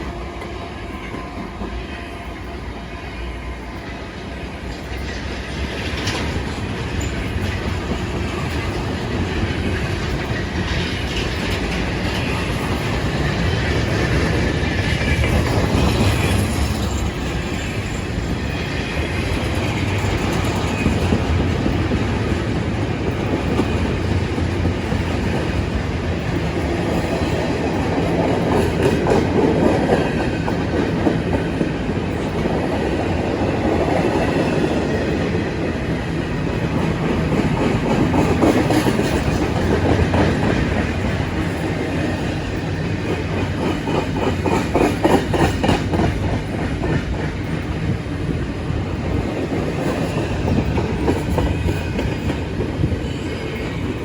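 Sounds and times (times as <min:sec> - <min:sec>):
train wheels clacking on rails: 0:00.0 - 0:54.0.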